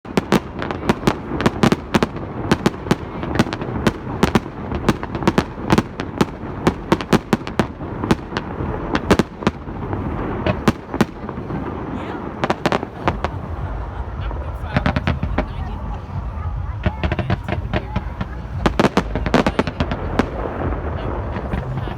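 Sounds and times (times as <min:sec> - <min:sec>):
continuous rumble: 0:00.0 - 0:21.9
fireworks bangs and crackles: 0:00.0 - 0:21.9.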